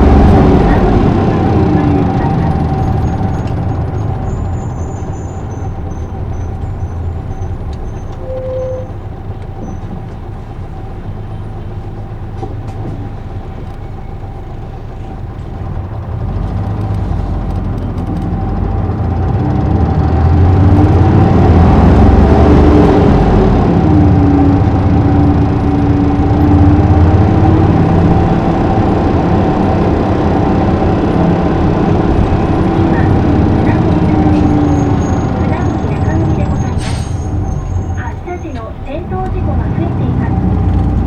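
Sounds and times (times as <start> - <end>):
bus engine rumbling: 0.0 - 41.0.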